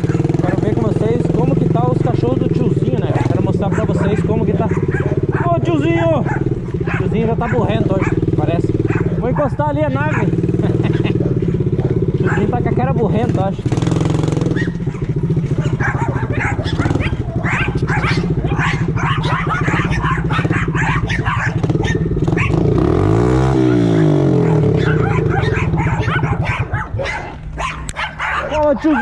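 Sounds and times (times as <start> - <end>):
dirt bike engine running: 0.0 - 29.0
dogs barking and yipping: 0.0 - 29.0.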